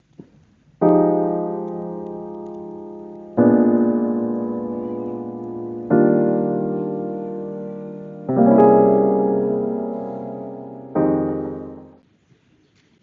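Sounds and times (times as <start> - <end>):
slow piano chords: 0.8 - 12.0.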